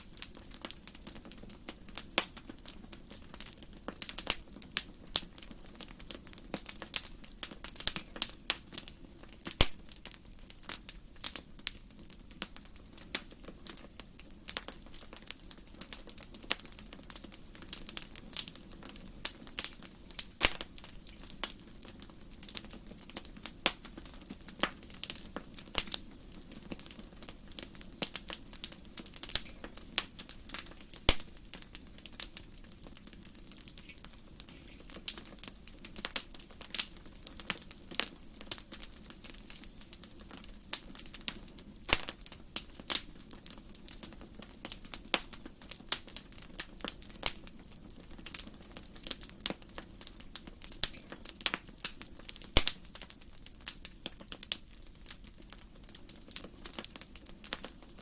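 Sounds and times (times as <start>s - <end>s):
fire low rumble: 0.0s - 58.0s
wood fire crackling: 0.0s - 58.0s.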